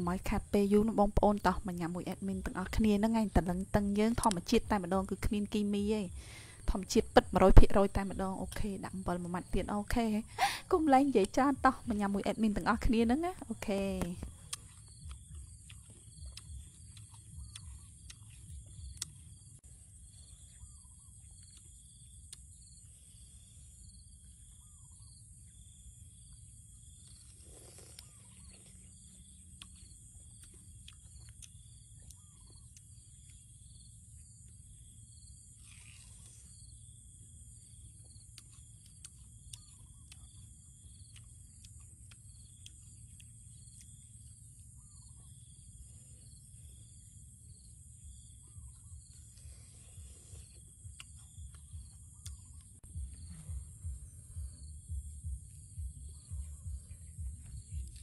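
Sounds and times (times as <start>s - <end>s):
crunchy fruit eating: 0.0s - 58.0s
insects trilling: 0.0s - 58.0s.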